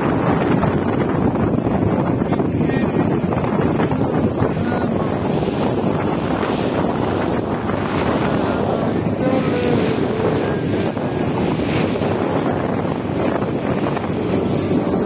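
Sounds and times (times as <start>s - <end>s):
boat engine running: 0.0s - 15.0s
water washing past hull: 0.0s - 15.0s
wind buffeting microphone: 0.0s - 15.0s.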